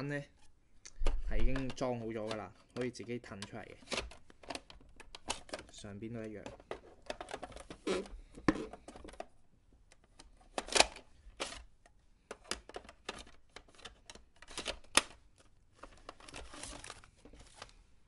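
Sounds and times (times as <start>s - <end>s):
plastic parts clicking and knocking: 0.9s - 17.7s.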